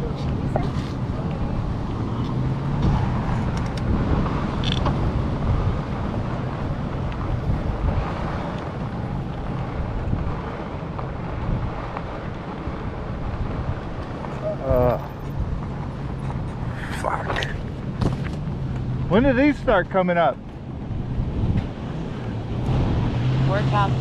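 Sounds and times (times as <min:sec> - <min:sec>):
wind on microphone: 0:00.0 - 0:19.5, 0:20.4 - 0:24.0
tyres rumbling on path: 0:00.0 - 0:24.0.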